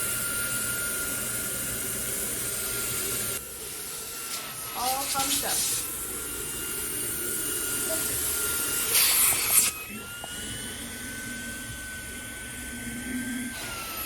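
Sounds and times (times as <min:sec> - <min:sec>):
handheld vacuum whining: 0:00.0 - 0:14.0.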